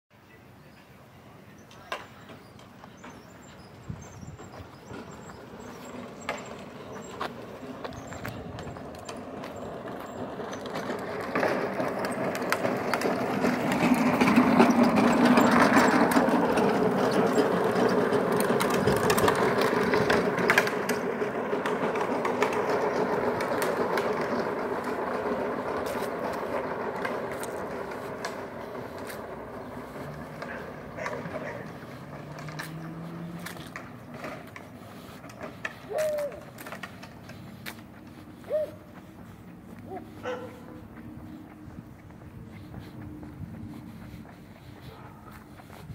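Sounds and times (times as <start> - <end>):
wheels rumbling on asphalt: 0.2 - 45.9.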